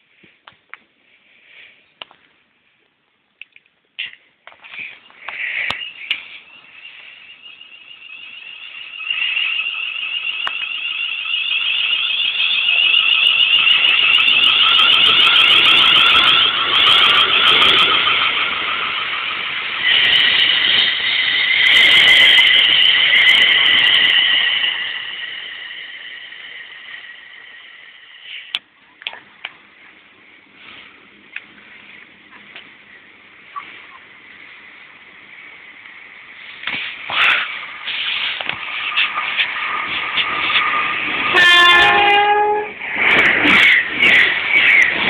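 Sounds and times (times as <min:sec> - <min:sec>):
electric train passing with whine: 0:04.6 - 0:45.0.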